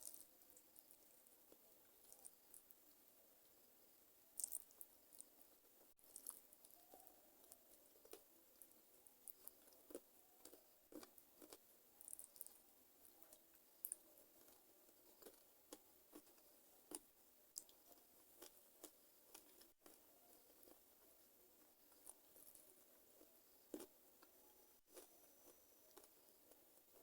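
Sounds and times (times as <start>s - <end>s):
wet chewing: 4.4s - 20.9s, 21.6s - 27.0s.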